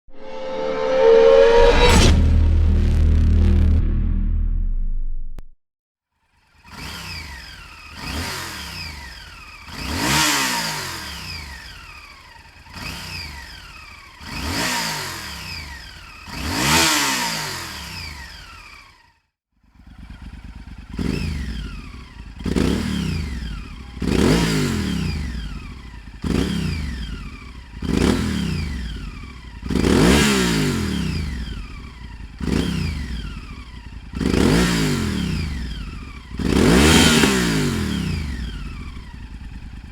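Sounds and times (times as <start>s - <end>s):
motorcycle engine revving: 6.2s - 39.9s.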